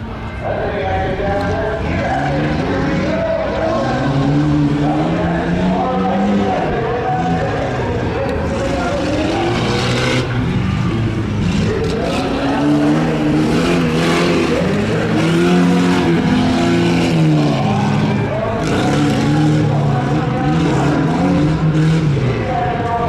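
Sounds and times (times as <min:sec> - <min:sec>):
pickup truck engine revving: 0:01.3 - 0:22.7.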